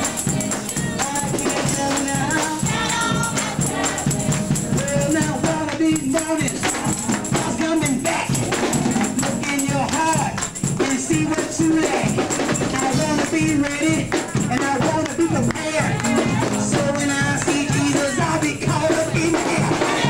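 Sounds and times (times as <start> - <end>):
tambourine beat: 0.0 - 20.0
voices singing gospel: 0.0 - 20.0.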